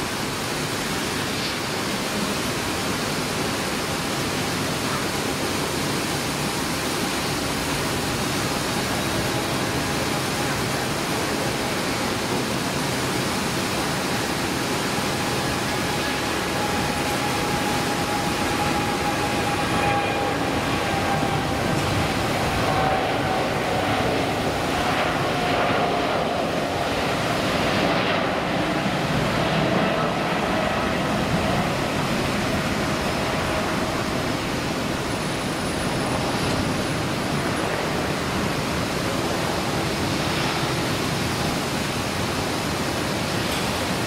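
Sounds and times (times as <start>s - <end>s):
jet engines roaring at takeoff: 0.0s - 44.0s.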